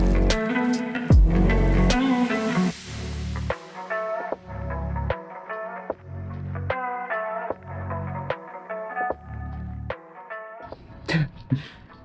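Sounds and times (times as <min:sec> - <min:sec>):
guitar music with beat: 0:00.0 - 0:11.0.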